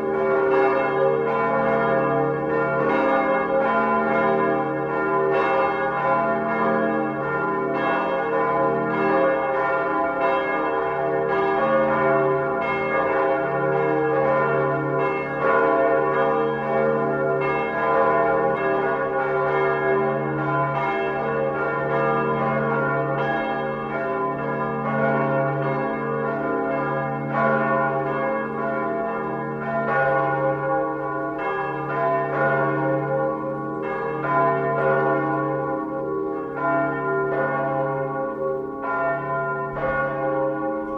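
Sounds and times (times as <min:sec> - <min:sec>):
large church bell ringing: 0:00.0 - 0:40.9.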